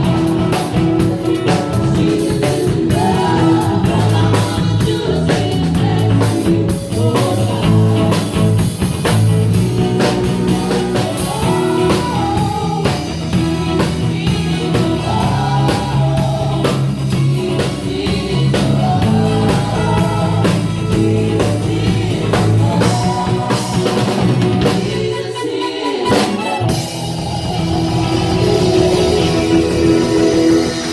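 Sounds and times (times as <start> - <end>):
person singing: 0.0 - 8.4, 10.4 - 30.9
bass guitar: 0.0 - 30.9
drums: 0.0 - 30.9
electric guitar: 0.0 - 30.9.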